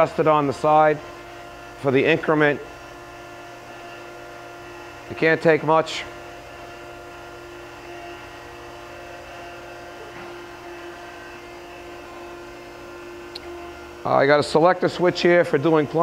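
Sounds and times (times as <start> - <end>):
surface grinder humming: 0.0 - 16.0.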